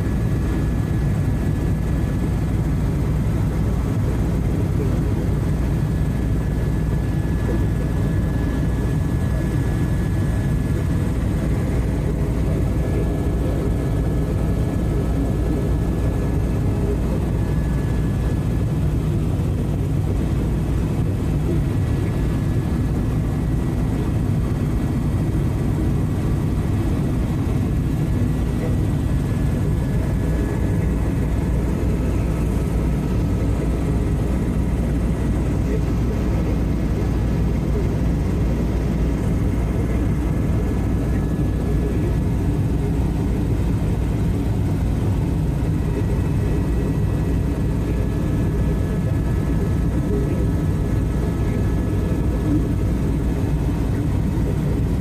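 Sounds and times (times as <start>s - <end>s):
helicopter rotor and engine drone: 0.0s - 55.0s
thin steady whine: 0.0s - 55.0s.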